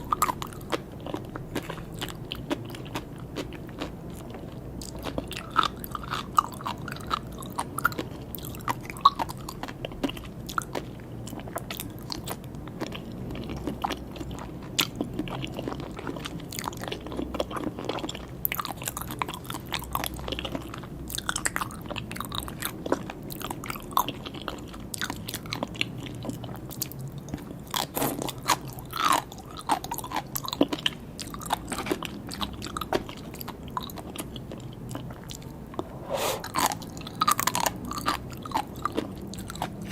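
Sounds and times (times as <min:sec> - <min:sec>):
close chewing and biting: 0:00.0 - 0:39.9.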